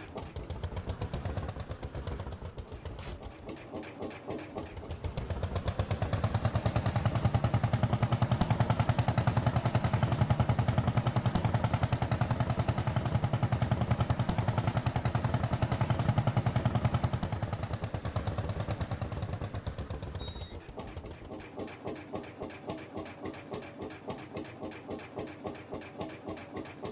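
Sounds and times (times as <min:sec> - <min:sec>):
two-stroke engine running: 0:00.0 - 0:26.9.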